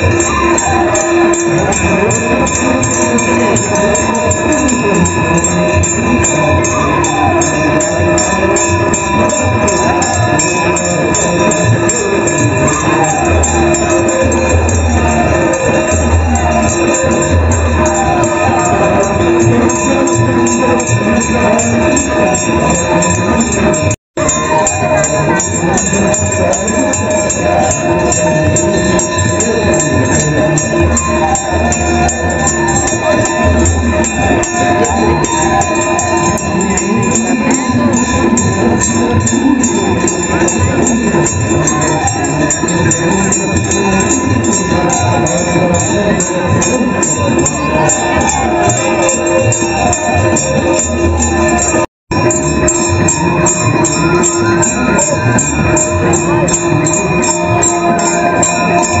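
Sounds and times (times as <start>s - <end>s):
devotional music: 0.0s - 59.0s
drone-like tones: 0.0s - 59.0s
person singing: 0.0s - 59.0s
quick steady beat: 0.0s - 59.0s
sharp rhythmic strikes: 0.0s - 59.0s.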